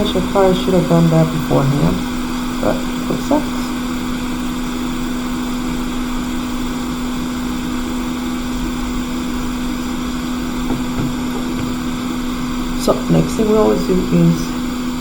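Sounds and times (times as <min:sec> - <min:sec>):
electric blower motor humming: 0:00.0 - 0:15.0.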